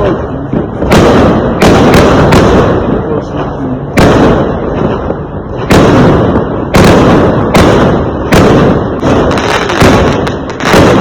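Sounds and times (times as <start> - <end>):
firework explosions: 0.0 - 11.0.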